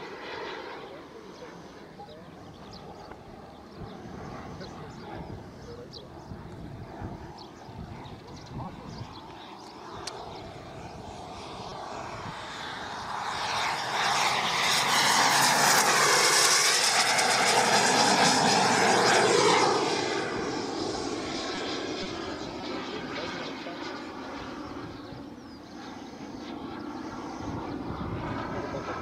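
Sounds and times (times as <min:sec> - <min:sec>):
model jet turbine rush: 0:03.2 - 0:29.0.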